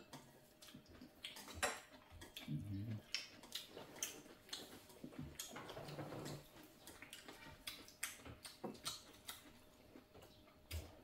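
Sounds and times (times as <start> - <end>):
soft chewing: 0.0 - 11.0.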